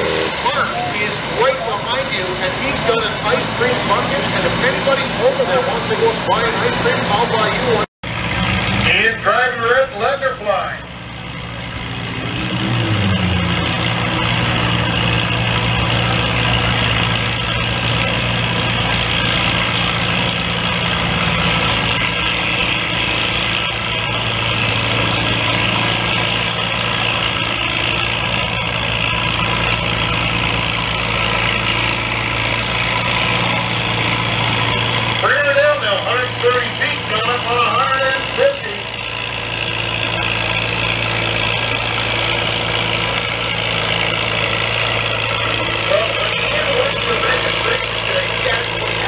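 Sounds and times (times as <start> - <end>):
tractor engine under load: 0.0 - 49.0.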